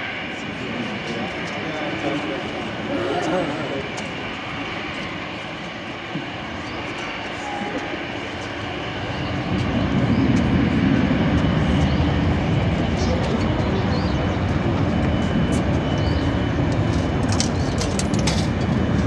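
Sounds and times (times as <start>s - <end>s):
jet engines spooling up: 0.0s - 19.0s.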